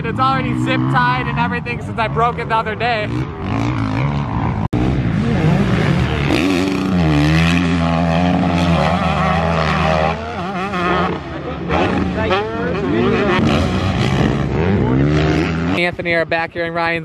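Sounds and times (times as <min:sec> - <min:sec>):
dirt bike engine revving: 0:00.0 - 0:16.3.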